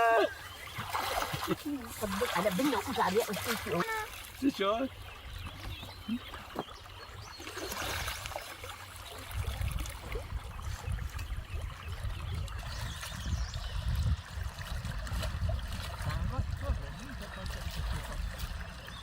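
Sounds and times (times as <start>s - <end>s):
water trickling: 0.0s - 19.0s.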